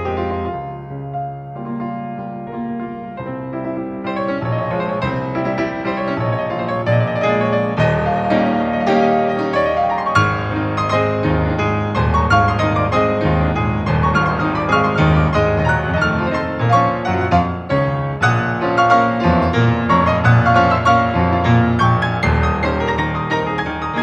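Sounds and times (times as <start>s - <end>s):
classical grand piano: 0.0s - 24.0s.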